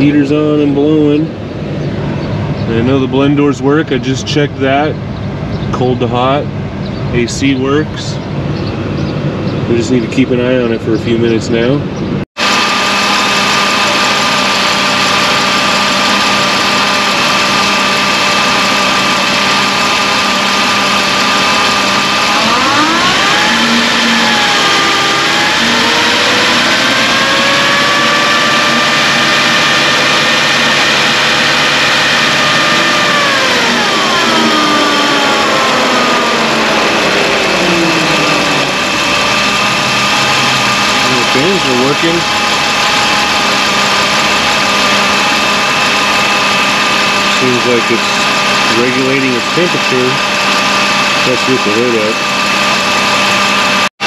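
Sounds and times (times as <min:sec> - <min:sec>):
car engine idling: 0:00.0 - 0:53.8
engine whine: 0:00.0 - 0:54.0.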